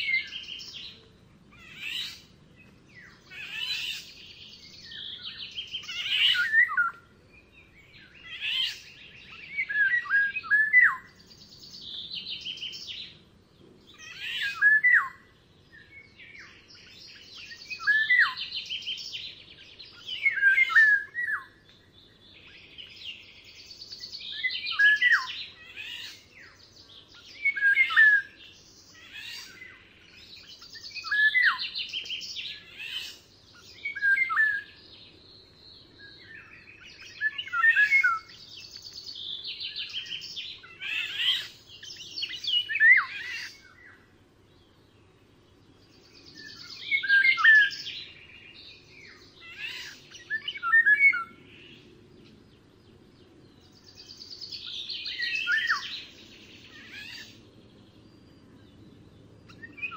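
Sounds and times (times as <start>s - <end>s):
songbird singing trills and whistles: 0.0s - 13.2s, 13.8s - 59.9s.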